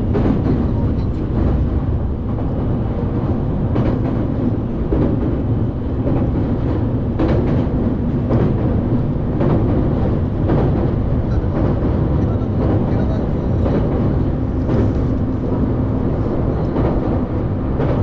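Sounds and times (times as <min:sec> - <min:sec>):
train low rumble: 0:00.0 - 0:18.0
wheels clacking over rail joints: 0:00.0 - 0:18.0.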